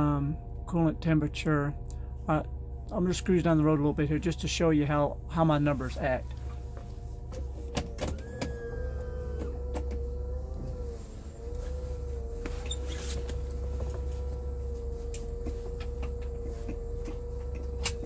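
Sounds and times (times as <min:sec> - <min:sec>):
engine and road drone: 0:00.0 - 0:18.0
steady whine: 0:00.0 - 0:18.0.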